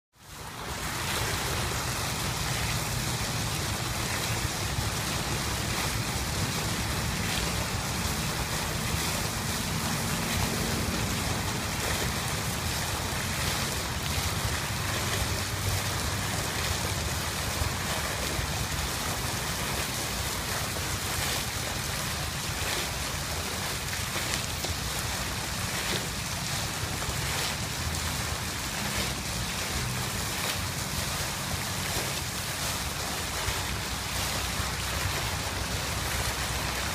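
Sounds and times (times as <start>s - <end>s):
fountain water splashing: 0.2s - 36.9s.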